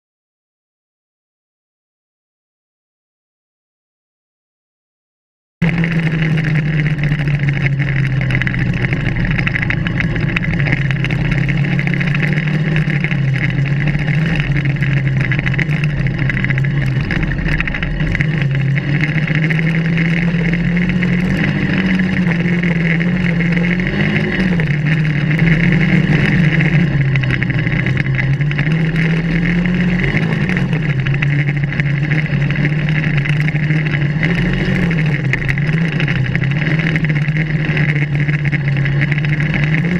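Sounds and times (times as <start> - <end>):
buggy engine running: 5.6 - 39.9.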